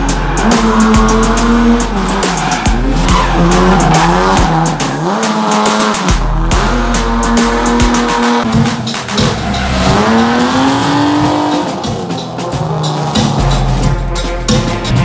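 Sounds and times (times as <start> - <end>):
tyres squealing: 0.0 - 13.8
car engine revving: 0.0 - 15.0
rock music: 0.0 - 15.0.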